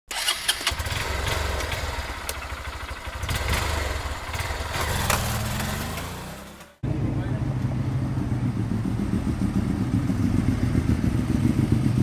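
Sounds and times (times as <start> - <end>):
motorcycle engine idling and revving: 0.1 - 12.0.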